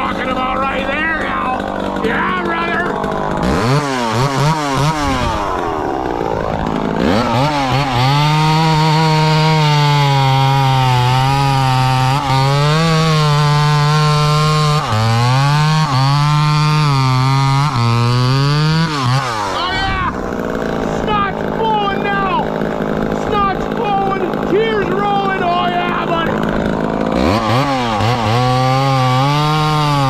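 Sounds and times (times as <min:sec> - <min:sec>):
chainsaw revving: 0:00.0 - 0:30.0.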